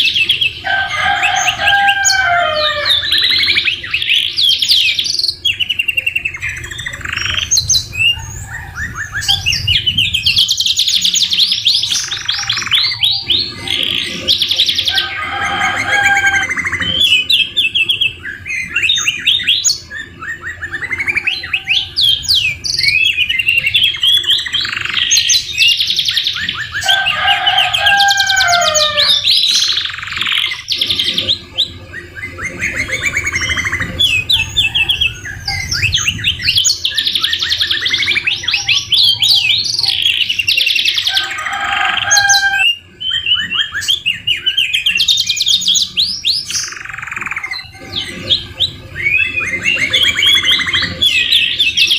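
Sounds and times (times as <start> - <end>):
canaries singing trills: 0.0 - 51.9.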